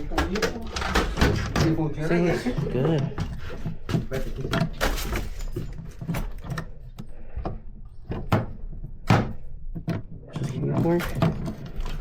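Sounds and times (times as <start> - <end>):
objects clicking and rattling: 0.0 - 12.0.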